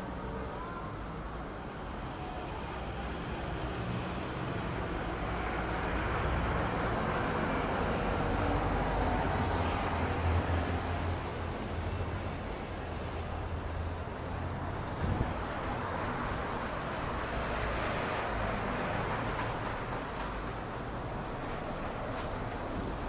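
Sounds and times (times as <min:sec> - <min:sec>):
passing cars and vans: 0:00.0 - 0:23.0.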